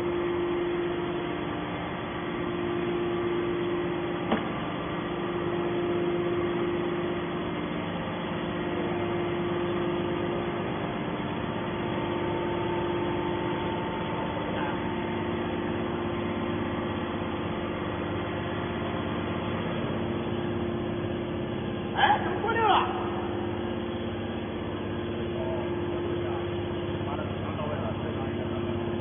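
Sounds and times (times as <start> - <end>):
hydraulic power unit humming: 0.0 - 29.0.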